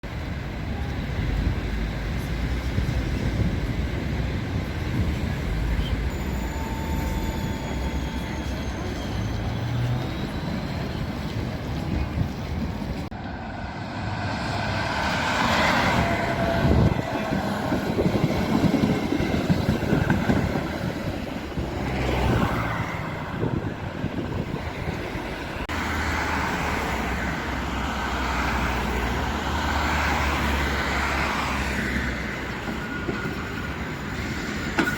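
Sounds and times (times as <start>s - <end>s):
street traffic rumble: 0.0s - 34.9s
tram passing: 0.0s - 34.9s.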